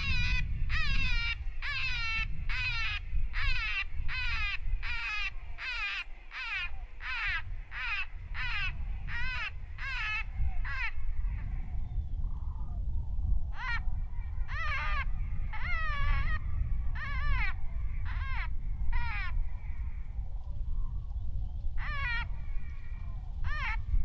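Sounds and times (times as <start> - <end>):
crow-like cawing calls: 0.0 - 11.7, 14.5 - 20.0, 21.8 - 23.9.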